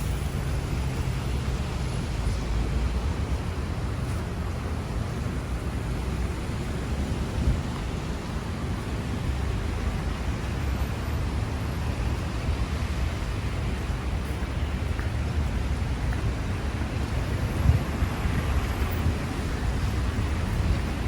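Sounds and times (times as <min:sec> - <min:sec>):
city street rumble: 0:00.0 - 0:21.0.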